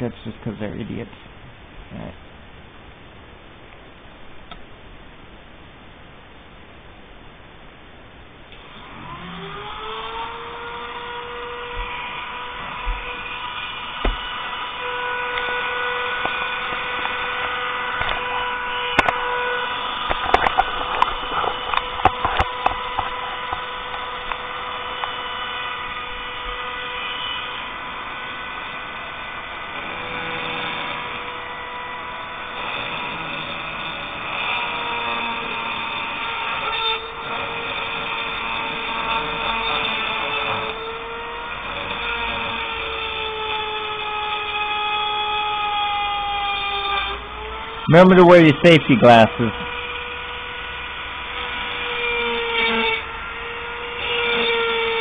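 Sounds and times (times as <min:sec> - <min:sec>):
rotary tool grinding metal: 0:08.5 - 0:55.0.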